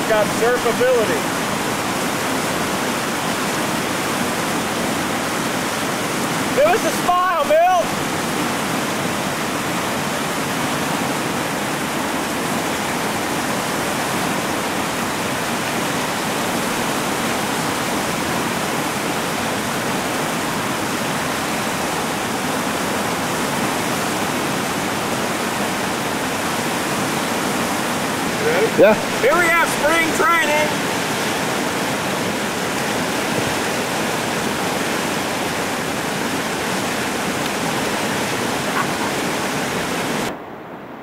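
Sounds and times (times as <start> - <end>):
whitewater rapids rushing: 0.0 - 40.4.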